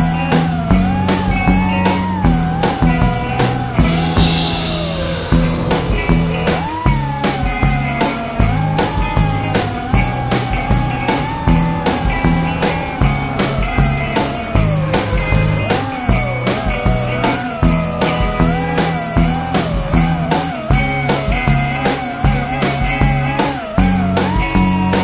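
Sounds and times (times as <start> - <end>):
hissing swell: 0.0 - 25.0
rock music: 0.0 - 25.0.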